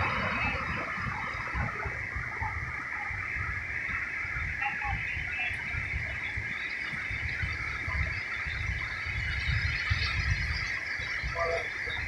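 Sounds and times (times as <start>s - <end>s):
steady high-pitched hiss: 0.0s - 12.0s.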